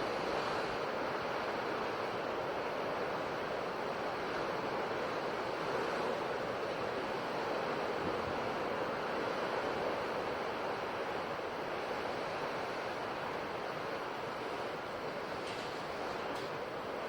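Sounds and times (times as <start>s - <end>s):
ocean surf washing on shore: 0.0s - 17.0s.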